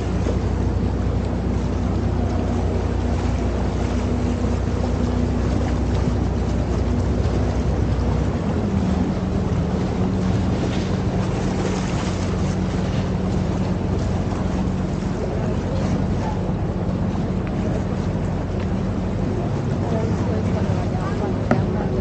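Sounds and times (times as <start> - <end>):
boat engine running: 0.0 - 22.0
rushing water: 0.0 - 22.0.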